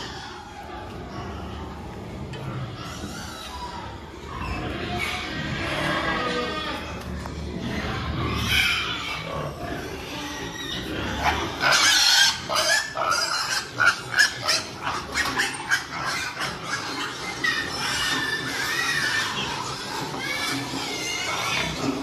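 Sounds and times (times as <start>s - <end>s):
background animal noise: 0.0s - 22.0s
pigs squealing: 0.0s - 22.0s.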